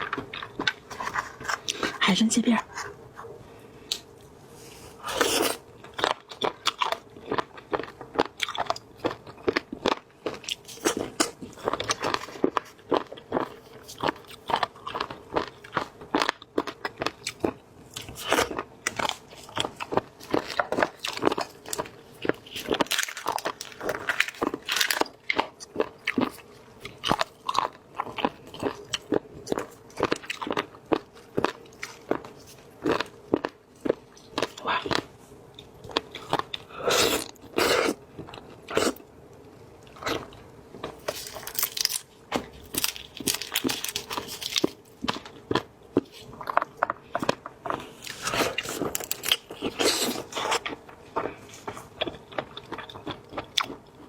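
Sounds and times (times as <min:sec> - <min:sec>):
person chewing crunchy food: 0:00.0 - 0:02.0, 0:04.8 - 0:54.0.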